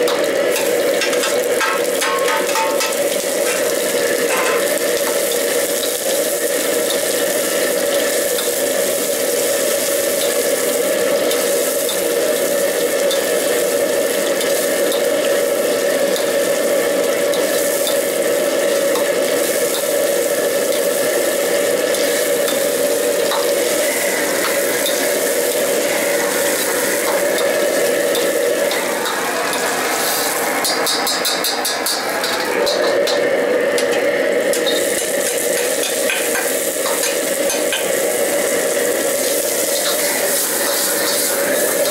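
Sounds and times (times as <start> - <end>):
wok stove humming: 0.0 - 41.9.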